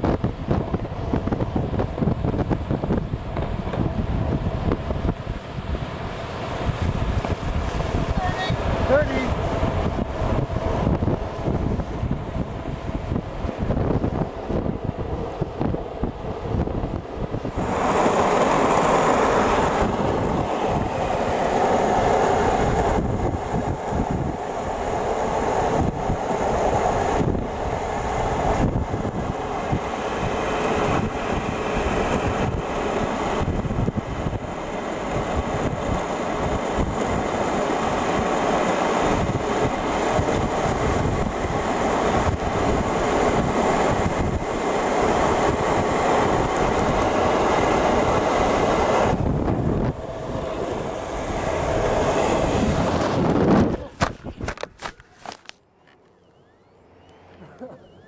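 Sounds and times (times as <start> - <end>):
wind noise: 0.0 - 55.5
longboard wheels rolling on asphalt: 0.0 - 58.0.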